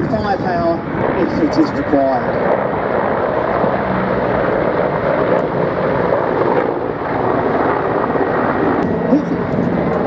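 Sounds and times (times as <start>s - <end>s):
helicopter turbines and rotors: 0.0s - 10.0s.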